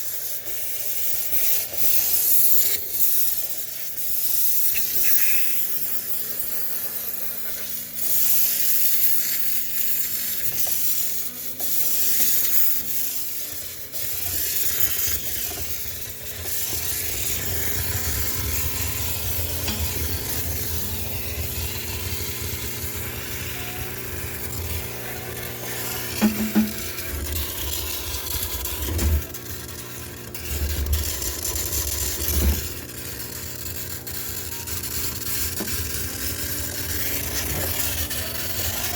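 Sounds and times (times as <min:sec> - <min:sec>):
pressure washer hissing spray: 0:00.0 - 0:38.9.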